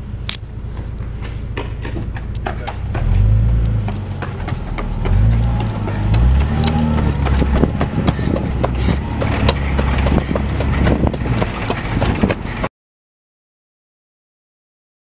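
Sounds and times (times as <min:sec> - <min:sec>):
car engine rumble: 0:00.0 - 0:12.7
tyre noise: 0:00.5 - 0:12.7.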